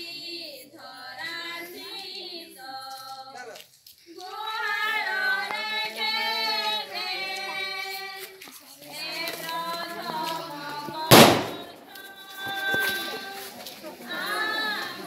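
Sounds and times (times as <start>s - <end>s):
children and women singing: 0.0s - 3.3s, 4.2s - 15.0s.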